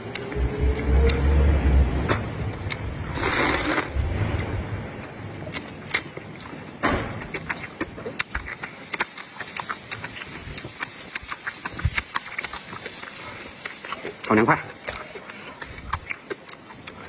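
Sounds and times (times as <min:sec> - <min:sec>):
person chewing: 0:00.0 - 0:01.3, 0:02.0 - 0:04.6, 0:05.3 - 0:17.0.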